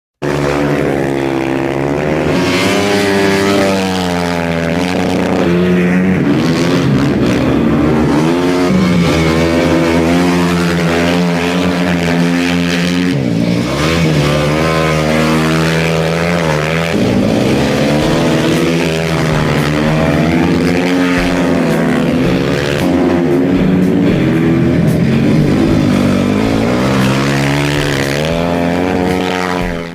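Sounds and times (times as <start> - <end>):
motocross bike engines revving: 0.2 - 29.9.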